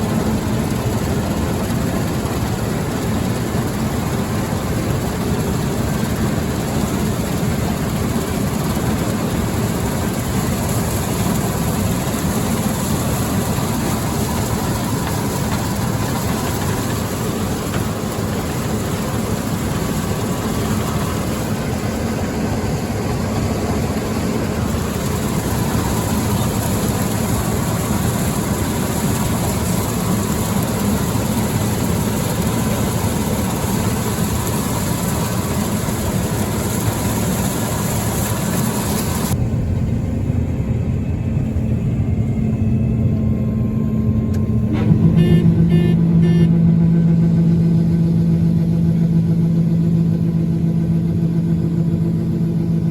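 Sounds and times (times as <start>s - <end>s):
farm machinery engine running: 0.0s - 52.9s.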